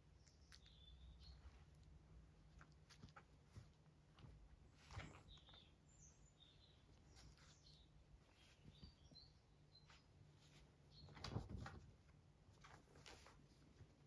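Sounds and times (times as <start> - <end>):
soft rustle: 0.1 - 14.0.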